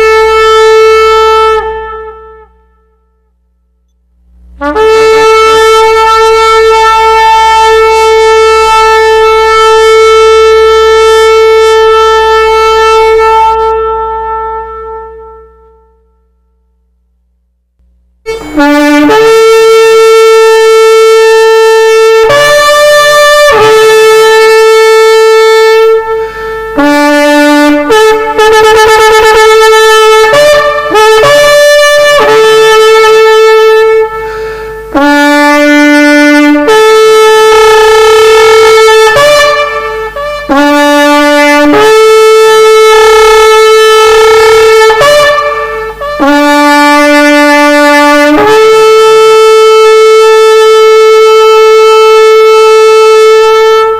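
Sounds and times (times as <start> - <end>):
horn blasts low to high: 0.0 - 17.2, 17.8 - 53.9.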